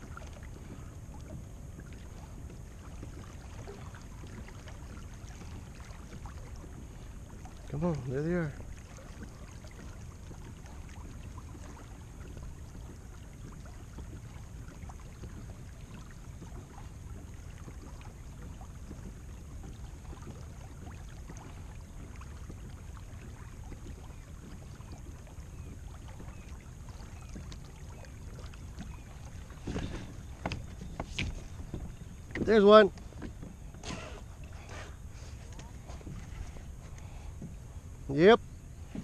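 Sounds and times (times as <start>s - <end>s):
water lapping against plastic hull: 0.0s - 39.0s
wind rumble on microphone: 0.0s - 39.0s.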